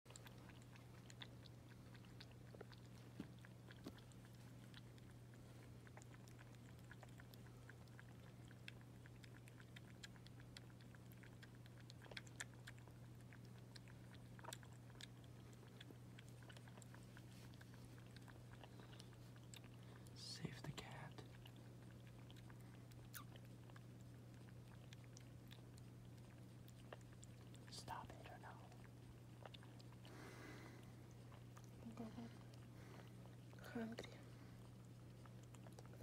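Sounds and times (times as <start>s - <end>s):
kitten suckling from bottle: 0.1s - 36.0s
steady low hum: 0.1s - 36.0s.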